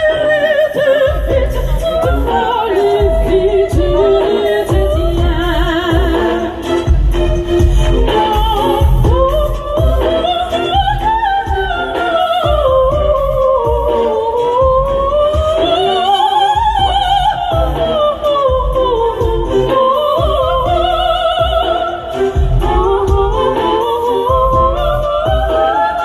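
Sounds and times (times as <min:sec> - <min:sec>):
operatic soprano singing: 0:00.0 - 0:26.0
accompaniment with low beat: 0:01.0 - 0:26.0.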